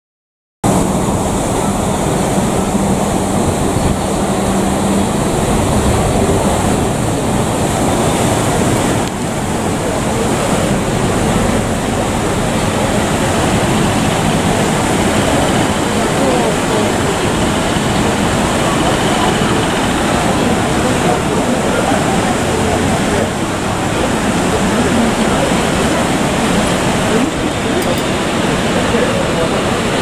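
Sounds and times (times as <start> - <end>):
propellers churning water: 0.6 - 30.0
low engine hum: 0.7 - 30.0.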